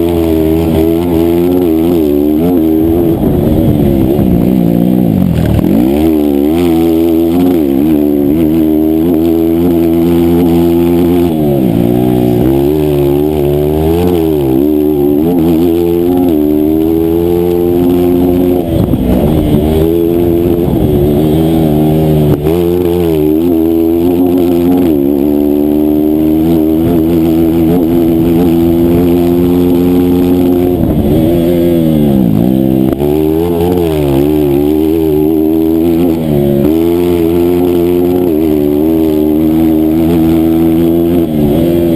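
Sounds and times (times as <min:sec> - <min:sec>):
racing engine revving: 0:00.0 - 0:41.9.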